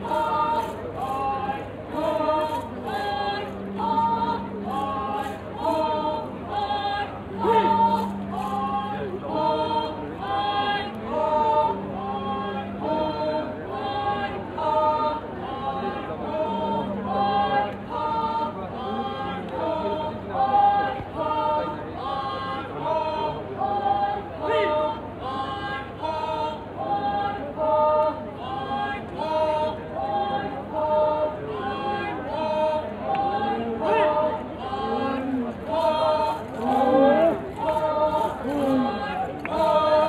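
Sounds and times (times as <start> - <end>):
group singing folk song: 0.0 - 40.0.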